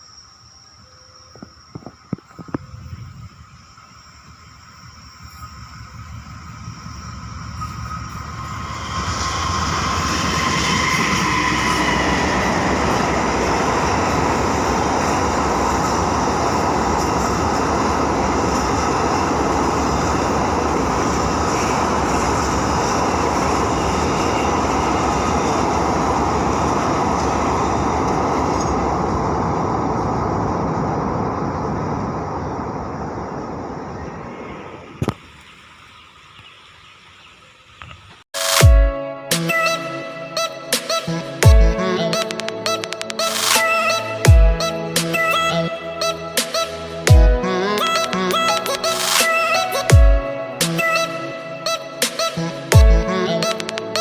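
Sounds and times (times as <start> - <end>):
train passing: 0.0 - 37.6, 38.4 - 54.0.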